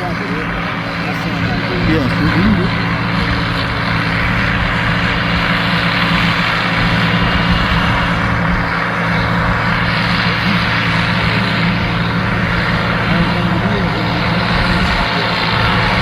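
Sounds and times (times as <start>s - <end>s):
heavy machinery engine droning: 0.0s - 16.0s.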